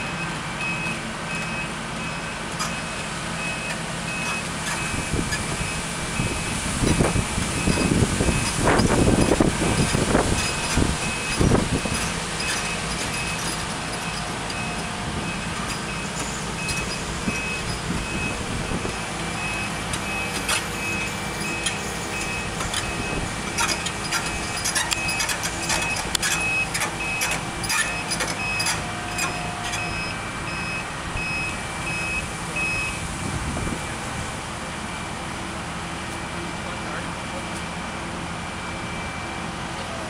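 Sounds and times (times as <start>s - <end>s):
reversing alarm beeping: 0.0s - 33.0s, 38.5s - 40.0s
engine running: 0.0s - 40.0s.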